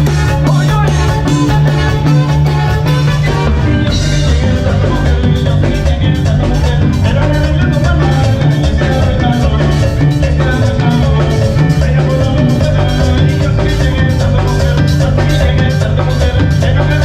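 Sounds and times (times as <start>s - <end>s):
band playing dance music: 0.0s - 17.0s
bass line: 0.0s - 17.0s
drums and percussion: 0.0s - 17.0s.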